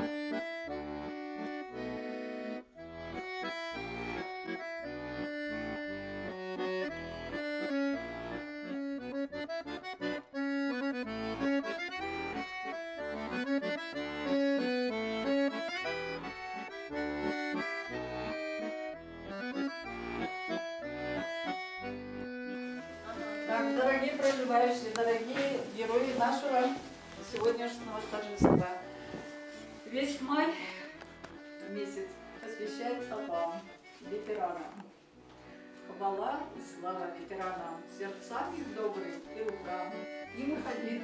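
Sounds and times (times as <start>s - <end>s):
accordion music: 0.0s - 41.0s.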